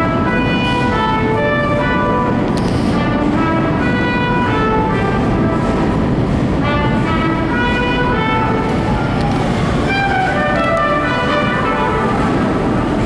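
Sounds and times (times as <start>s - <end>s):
music with held notes: 0.0s - 13.0s
subway train wheels rumbling: 0.0s - 13.0s.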